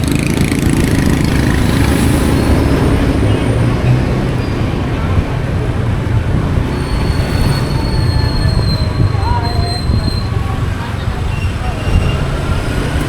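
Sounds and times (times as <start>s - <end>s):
motorcycle engine rumble: 0.0s - 13.0s
road noise: 0.0s - 13.0s.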